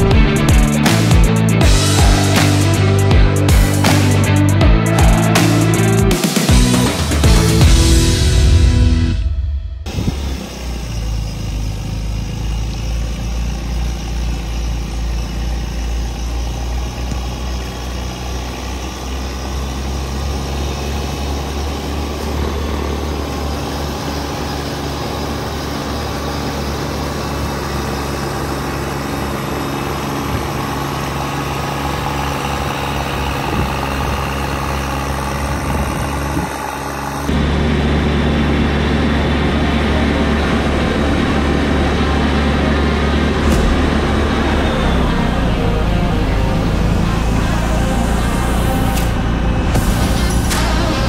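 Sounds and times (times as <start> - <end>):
diesel tractor engine running: 0.0 - 51.0.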